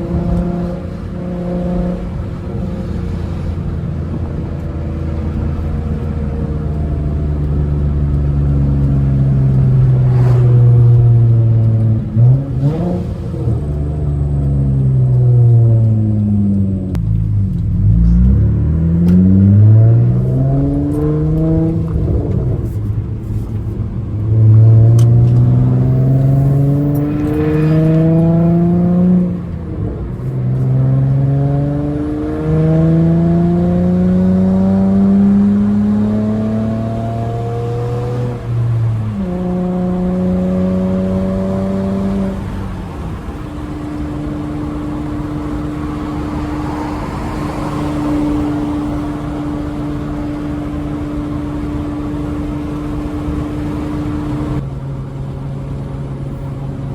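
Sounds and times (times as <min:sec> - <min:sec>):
car exhaust accelerating: 0:00.0 - 0:56.9.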